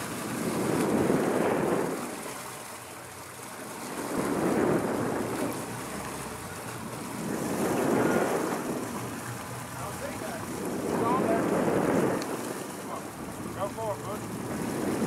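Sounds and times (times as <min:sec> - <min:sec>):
wind on microphone: 0:00.0 - 0:02.8, 0:03.5 - 0:15.0
boat wake churning: 0:00.0 - 0:15.0.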